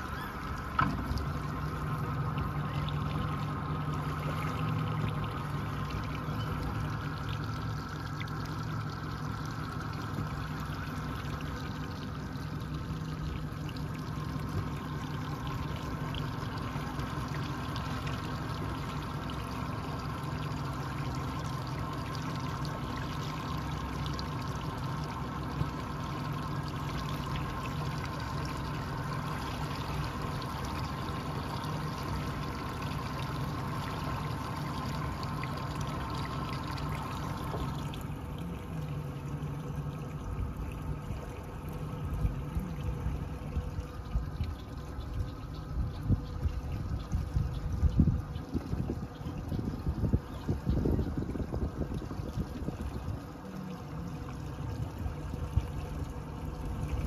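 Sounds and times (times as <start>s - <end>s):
boat motor drone: 0.0s - 57.0s
water splashing along hull: 0.0s - 57.0s.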